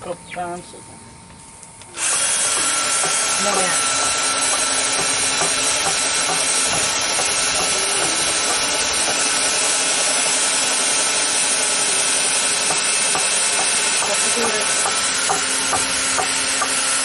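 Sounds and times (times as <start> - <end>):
loud steady hiss: 1.9 - 17.0.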